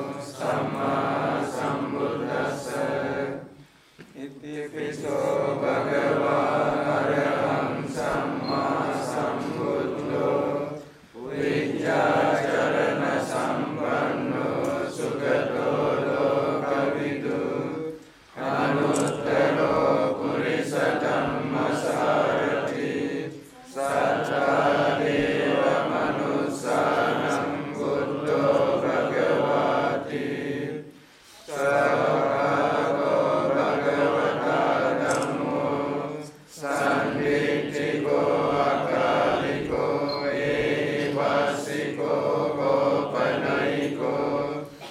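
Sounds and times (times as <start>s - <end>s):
monks chanting together: 0.0s - 44.9s.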